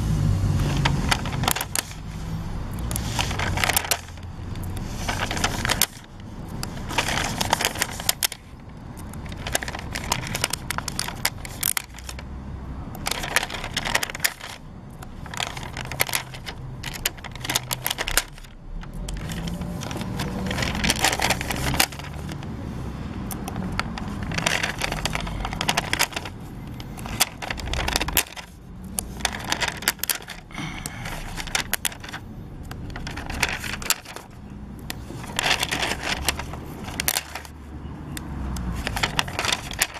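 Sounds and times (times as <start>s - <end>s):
paper rustling: 0.5s - 12.3s, 13.0s - 37.7s, 38.6s - 39.9s
plastic sheet crinkling: 0.6s - 12.3s, 13.0s - 22.5s, 23.6s - 37.6s, 38.6s - 39.9s.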